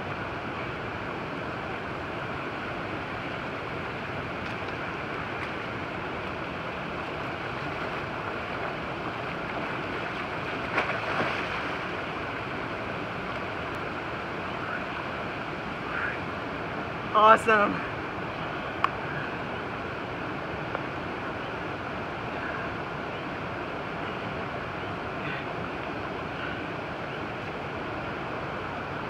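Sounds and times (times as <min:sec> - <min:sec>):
river water over rocks: 0:00.0 - 0:29.0.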